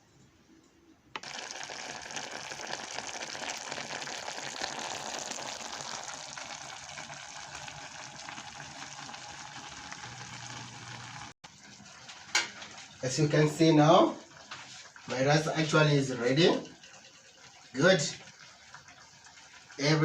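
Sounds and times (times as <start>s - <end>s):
pot sizzling and bubbling: 1.2s - 20.0s.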